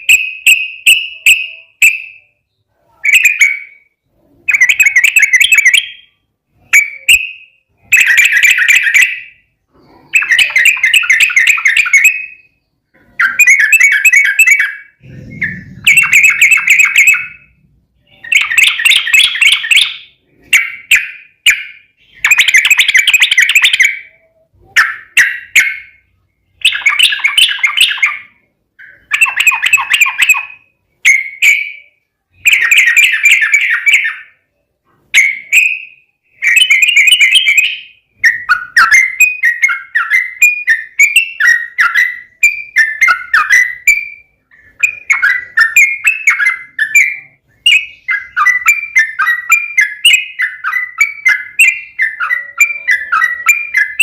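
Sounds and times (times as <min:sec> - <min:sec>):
bird singing bubbling song: 0:00.0 - 0:54.0.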